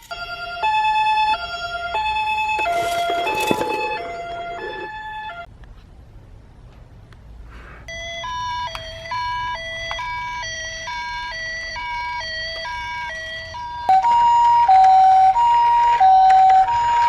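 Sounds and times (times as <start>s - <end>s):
toy ambulance two-tone siren: 0.0s - 5.5s, 7.9s - 17.0s.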